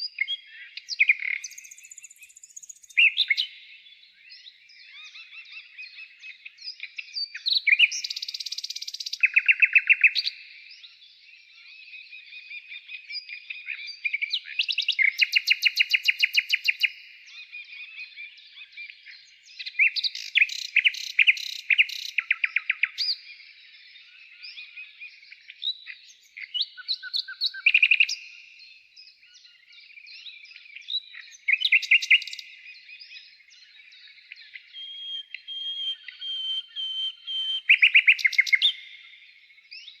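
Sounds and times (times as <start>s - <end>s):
songbird singing: 0.0s - 40.0s.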